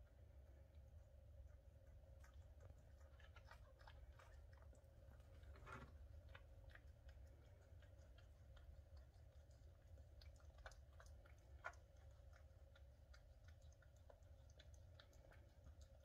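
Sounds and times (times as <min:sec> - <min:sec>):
cat licking wet clicks: 0:00.6 - 0:16.0.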